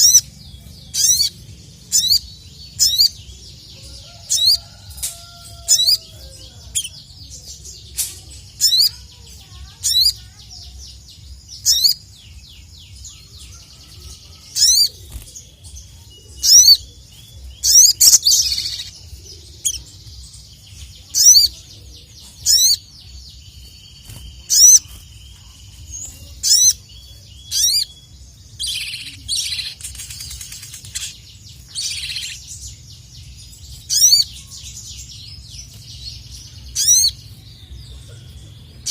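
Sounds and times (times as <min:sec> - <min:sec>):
buzzy bird trills: 0:00.0 - 0:07.0, 0:11.5 - 0:38.9.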